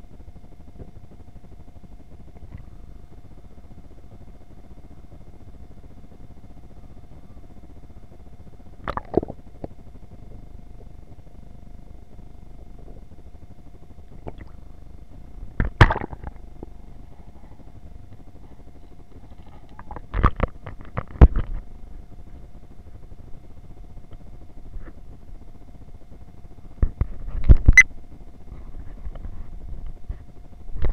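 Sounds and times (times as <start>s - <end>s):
faint steady hum: 0.0s - 30.9s
low steady rumble: 0.0s - 30.9s.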